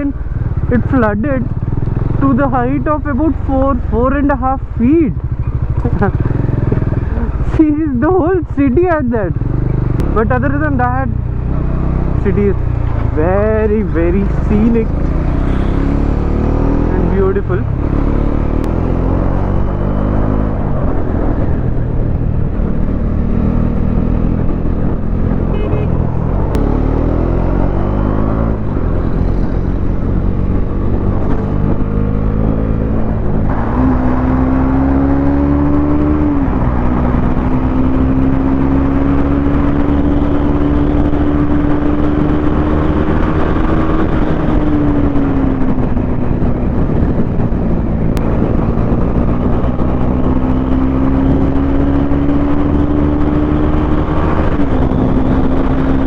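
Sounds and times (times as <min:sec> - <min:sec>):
motorcycle engine accelerating: 0:00.0 - 0:56.0
road and wind noise: 0:00.0 - 0:56.0.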